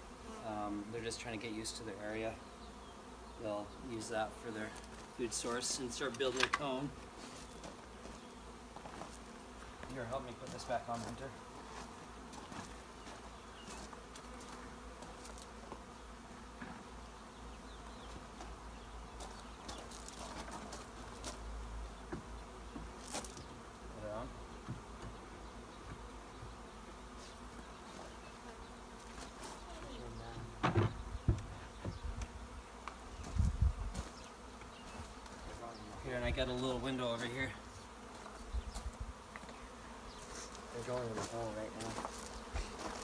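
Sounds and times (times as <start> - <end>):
bees buzzing: 0.0 - 43.0.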